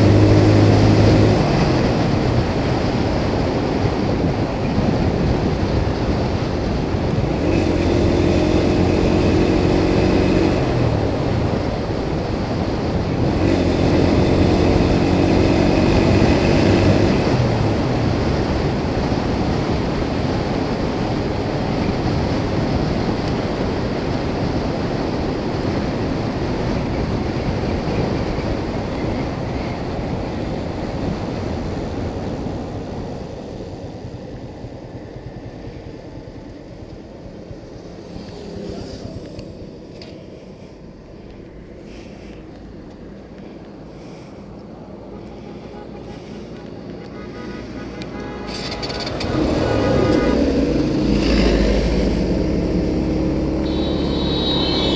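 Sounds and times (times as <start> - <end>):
motorcycle engine drone: 0.0 - 54.9
wind and road rush: 0.0 - 54.9.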